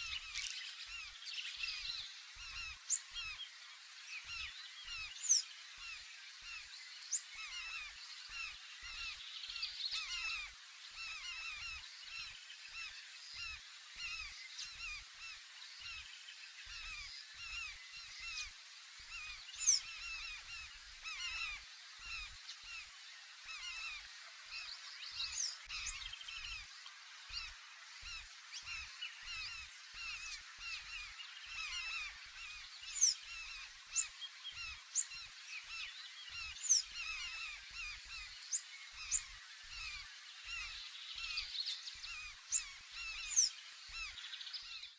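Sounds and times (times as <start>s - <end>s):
terns calling: 0.0s - 44.9s.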